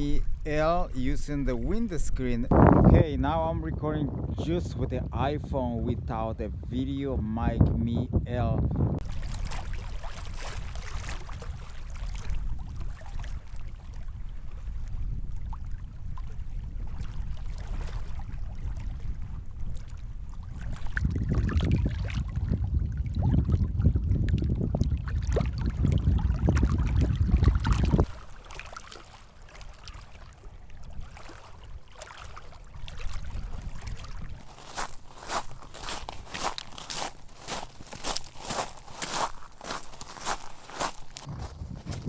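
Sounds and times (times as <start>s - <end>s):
wind buffeting microphone: 0.0s - 28.3s, 32.7s - 42.0s.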